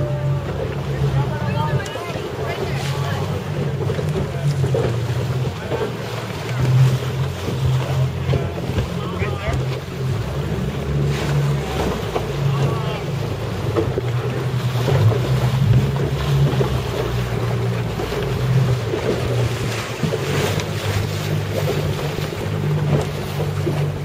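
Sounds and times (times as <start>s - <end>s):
outboard motor droning: 0.0s - 24.0s
water against hull: 0.0s - 24.0s
wind: 0.0s - 24.0s.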